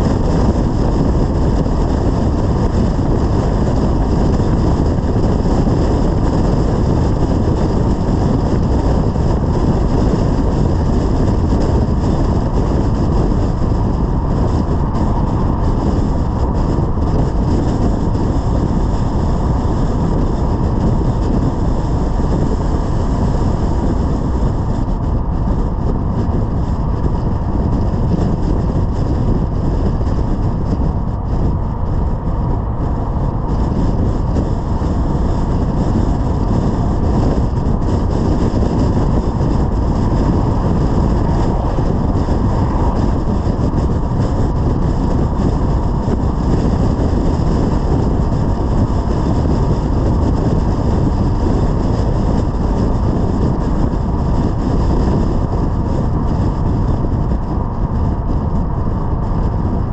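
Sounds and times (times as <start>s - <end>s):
car road noise at highway speed: 0.0s - 59.9s
wind rumble: 0.0s - 59.9s.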